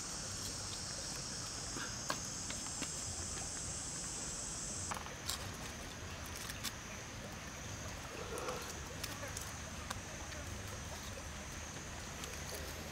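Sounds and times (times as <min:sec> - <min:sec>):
forest insects buzzing: 0:00.0 - 0:12.9.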